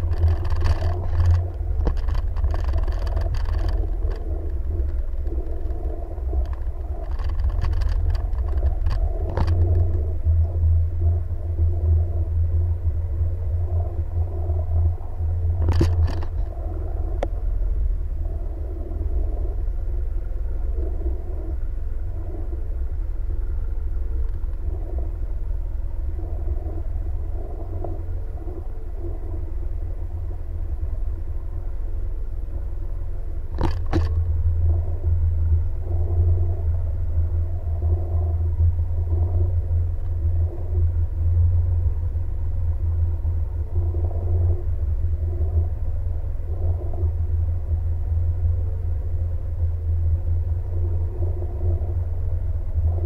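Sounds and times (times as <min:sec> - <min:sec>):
jet ski engine running: 0:00.0 - 0:53.0.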